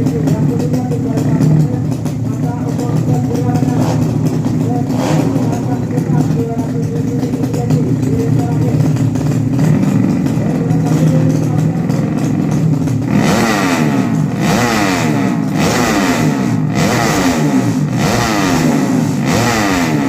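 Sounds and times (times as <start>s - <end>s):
racing motorcycle engine revving: 0.0s - 20.0s.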